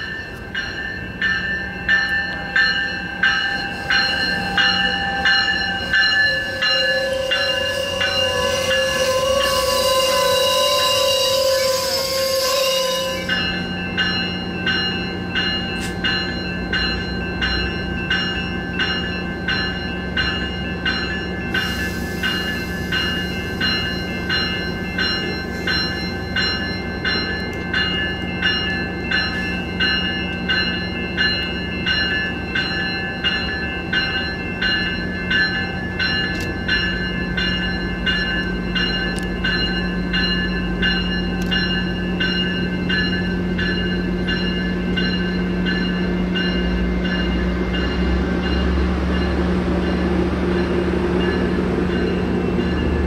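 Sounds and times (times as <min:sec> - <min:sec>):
diesel locomotive rumble: 0:00.0 - 0:53.0
warning bell ringing: 0:00.0 - 0:53.0.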